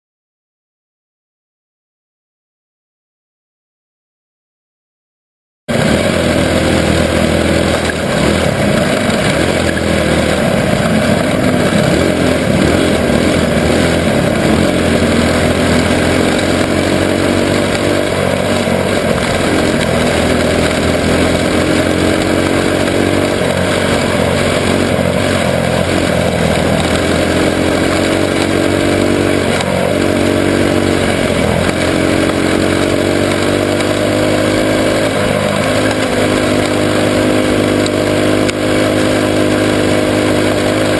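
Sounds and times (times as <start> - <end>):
racing car engine revving: 5.7 - 40.9.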